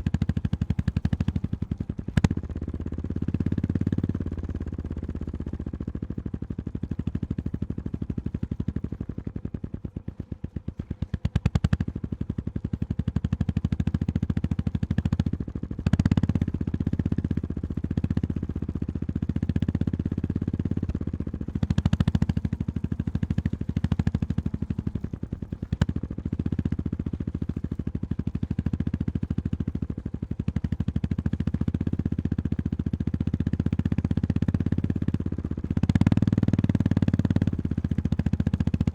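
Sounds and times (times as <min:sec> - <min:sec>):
motorcycle engine pulsing: 0:00.0 - 0:38.9.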